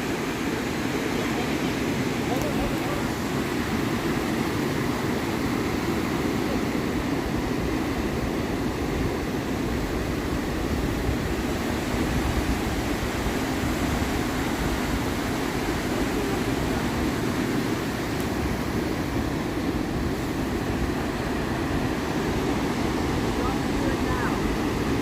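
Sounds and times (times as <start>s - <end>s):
ocean surf roar: 0.0s - 25.0s.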